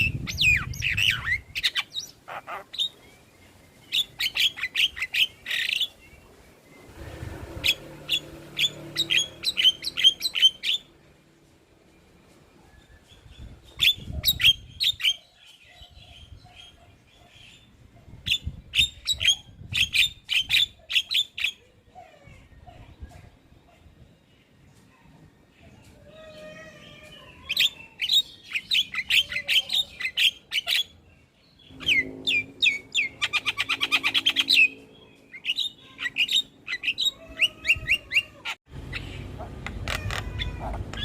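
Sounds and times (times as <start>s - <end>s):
birds calling in sharp chirps: 0.0s - 11.2s, 12.0s - 41.0s.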